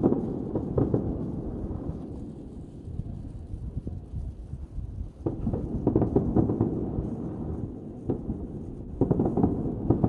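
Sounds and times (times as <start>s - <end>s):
distant fireworks booming and crackling: 0.0s - 10.0s.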